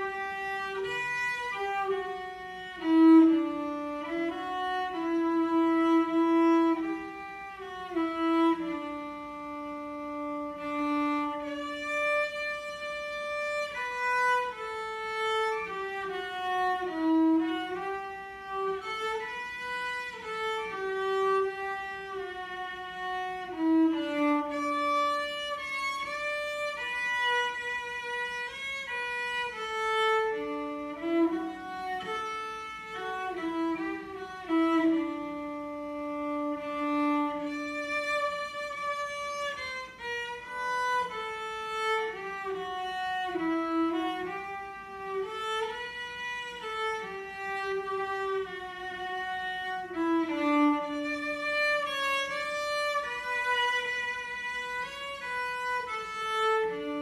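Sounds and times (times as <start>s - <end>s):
cello melody: 0.0s - 57.0s.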